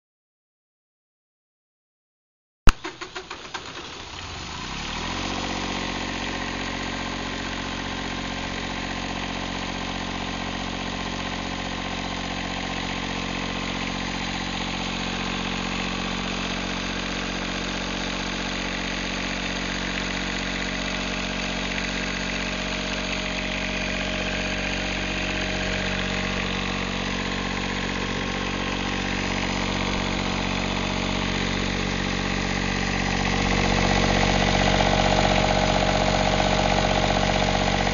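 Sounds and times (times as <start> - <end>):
diesel generator cranking and running: 2.7 - 37.9.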